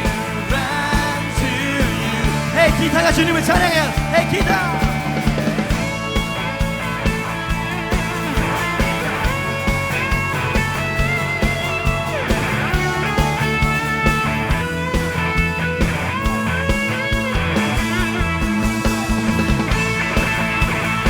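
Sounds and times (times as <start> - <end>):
bass guitar: 0.0 - 21.0
drum beat: 0.0 - 21.0.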